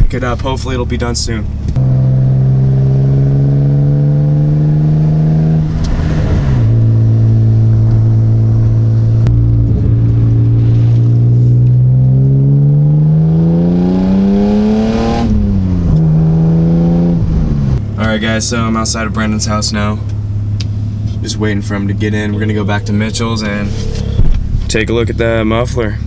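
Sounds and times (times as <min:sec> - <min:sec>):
loud car exhaust drone: 0:00.0 - 0:26.0.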